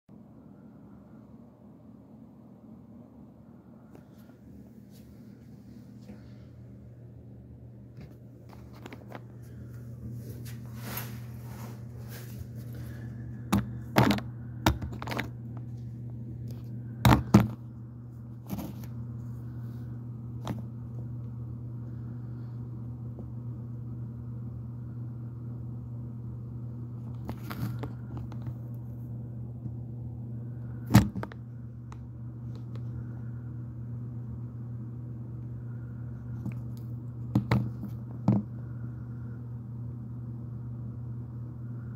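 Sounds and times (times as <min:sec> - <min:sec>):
steady low hum: 0:00.1 - 0:41.9.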